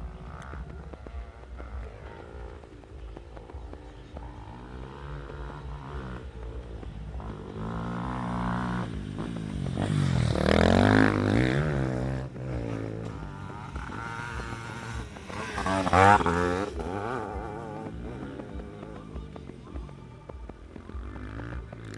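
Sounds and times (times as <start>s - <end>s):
dirt bike engines revving: 0.0s - 21.9s.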